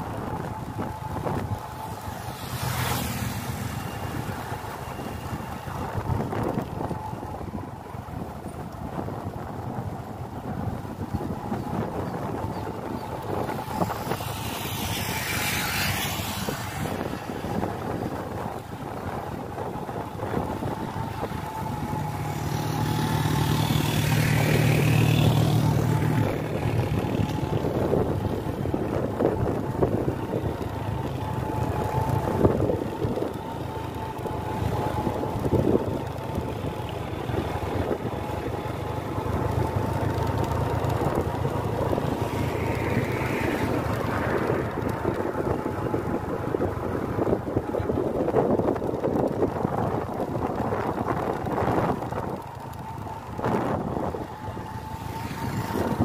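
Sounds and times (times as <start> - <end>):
vehicle engine drone: 0.0 - 56.0
wind noise on microphone: 0.0 - 56.0.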